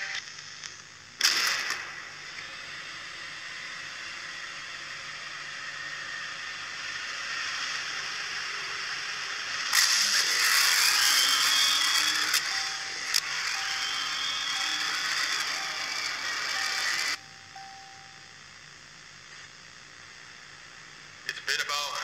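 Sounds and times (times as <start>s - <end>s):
hissing static noise: 0.0s - 3.7s, 7.6s - 22.0s.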